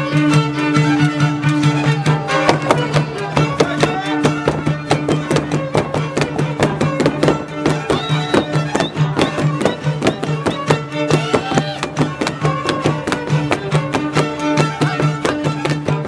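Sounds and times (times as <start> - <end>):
fiddle playing folk tune: 0.0 - 16.0
struck string beat: 0.0 - 16.0.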